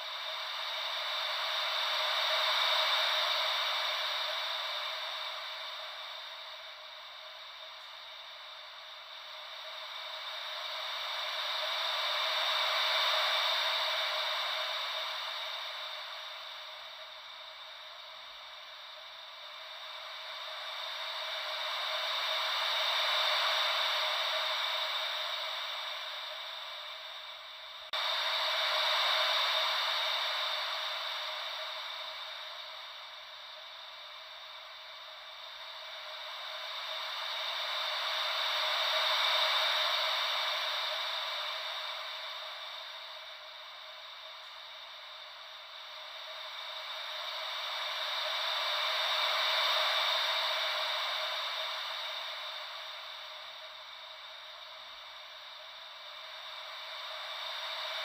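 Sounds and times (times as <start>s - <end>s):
ocean wave white noise: 0.1s - 58.0s.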